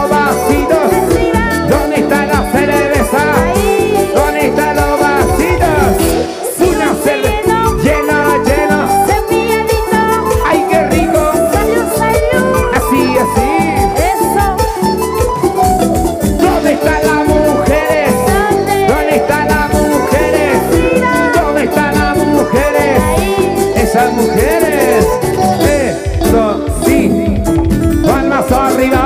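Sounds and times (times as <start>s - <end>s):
live latin dance band: 0.0s - 29.0s.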